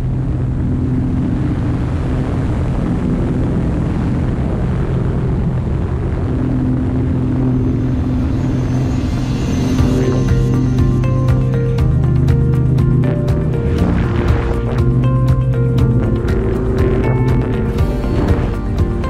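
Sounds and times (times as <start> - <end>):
propeller plane engine drone: 0.0 - 19.0
wind rushing: 0.0 - 19.0.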